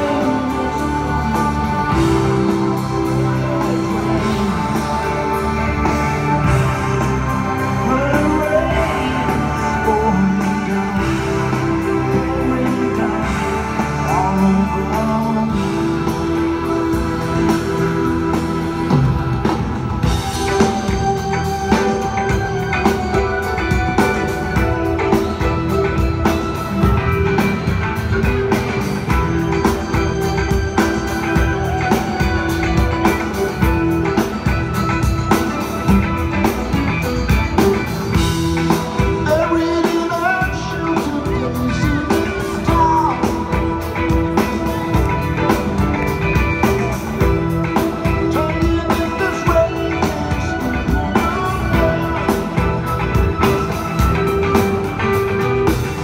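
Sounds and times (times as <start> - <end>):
gliding vocal or guitar lines: 0.0 - 56.0
live rock band playing: 0.0 - 56.0.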